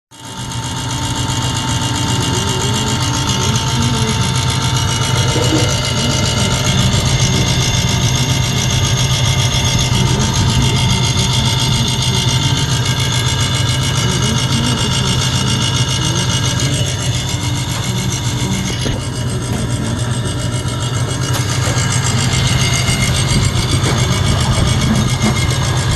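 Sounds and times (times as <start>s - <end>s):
compressor humming and whirring: 0.2s - 25.9s.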